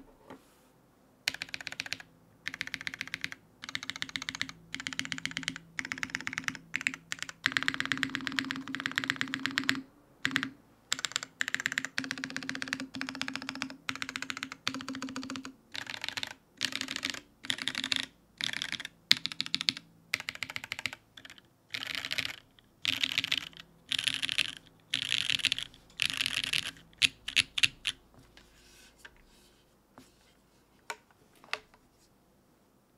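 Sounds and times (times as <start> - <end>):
mechanical keyboard typing: 1.3 - 28.0.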